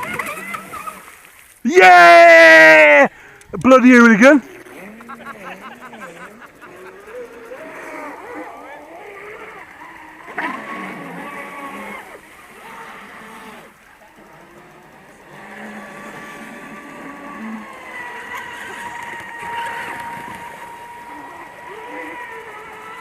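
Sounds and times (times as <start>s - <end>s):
electric boat motor whining: 0.0s - 1.4s, 3.2s - 23.0s.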